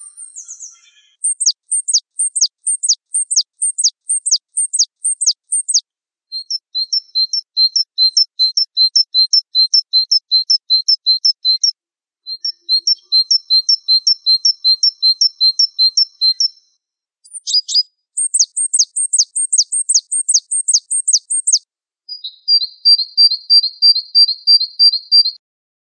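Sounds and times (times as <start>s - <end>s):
songbird singing: 0.0s - 11.7s, 12.3s - 25.4s.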